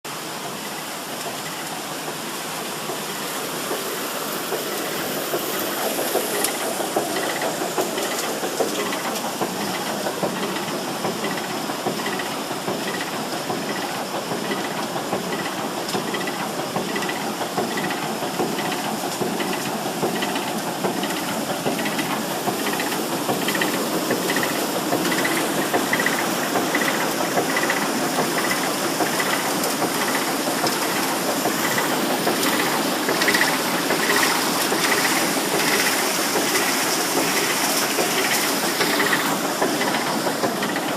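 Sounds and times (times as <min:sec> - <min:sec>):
pulsing water rushing: 0:00.1 - 0:40.9.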